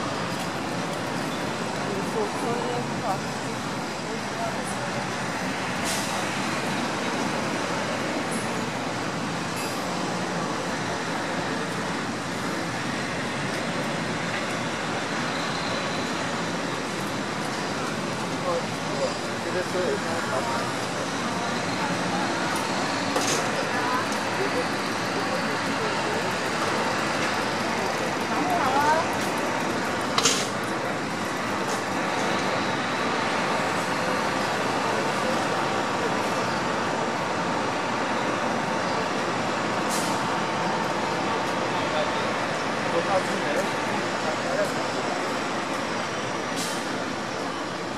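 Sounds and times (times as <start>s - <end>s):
road traffic: 0.0s - 47.9s.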